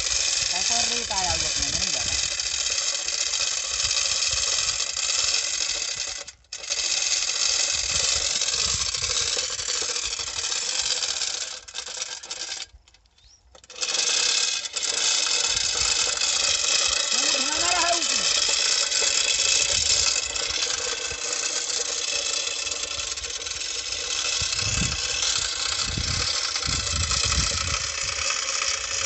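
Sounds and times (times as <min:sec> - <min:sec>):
steel chains clinking and rattling: 0:00.2 - 0:12.8, 0:13.6 - 0:29.0.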